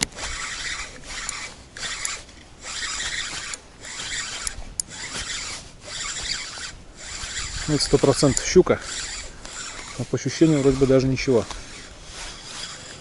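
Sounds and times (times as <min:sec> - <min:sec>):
fishing reel rasping whir: 0:00.0 - 0:13.0.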